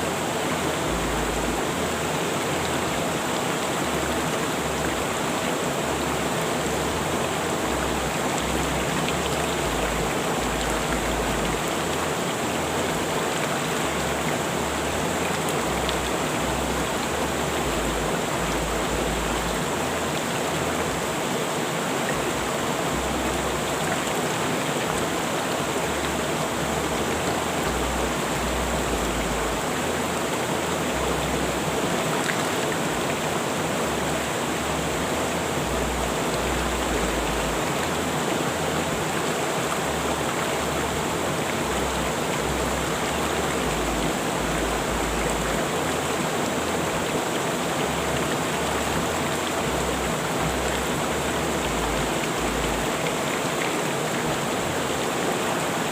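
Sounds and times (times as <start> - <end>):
river water rushing over rocks: 0.0 - 55.9.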